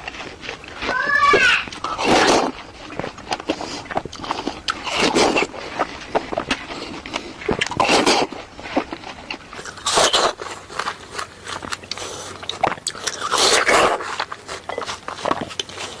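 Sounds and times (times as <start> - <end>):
crunching bites into fruit: 0.0 - 16.0
wet chewing clicks: 0.0 - 16.0.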